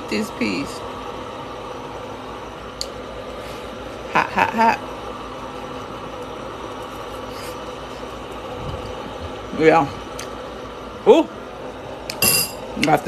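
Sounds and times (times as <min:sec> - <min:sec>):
food steamer humming: 0:00.0 - 0:13.0.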